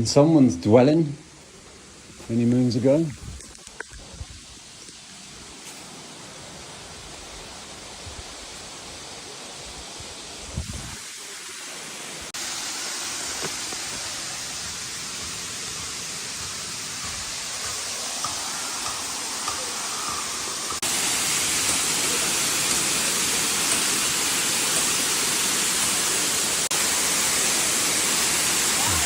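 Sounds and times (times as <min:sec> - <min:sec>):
flowing water rushing: 0:03.5 - 0:29.0.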